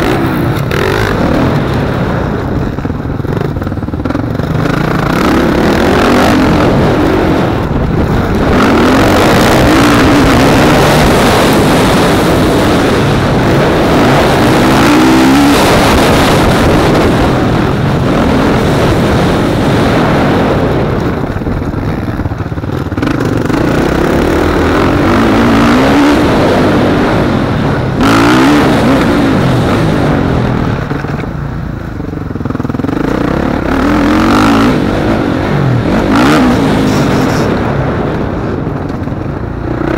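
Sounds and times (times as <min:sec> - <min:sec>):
motocross bike engine revving: 0:00.0 - 0:31.0, 0:31.9 - 0:39.9.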